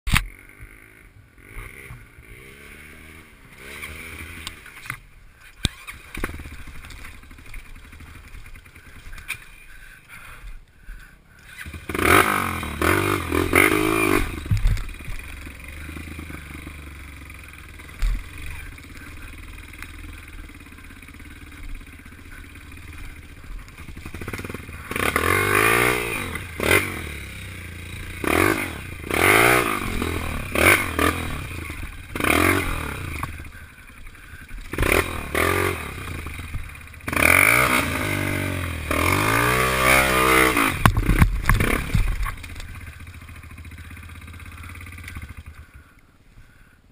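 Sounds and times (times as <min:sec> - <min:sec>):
dirt bike engine revving: 0:00.1 - 0:46.7
bike rattling over ruts: 0:00.1 - 0:46.8.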